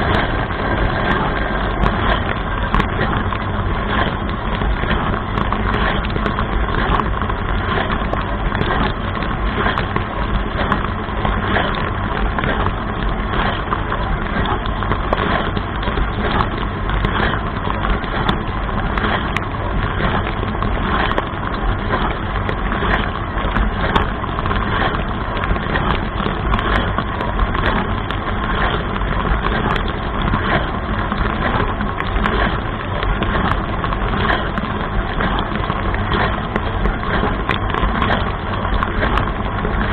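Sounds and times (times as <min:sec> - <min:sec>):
dishwasher pump hum: 0:00.0 - 0:39.9
sharp water spatters: 0:00.0 - 0:39.9.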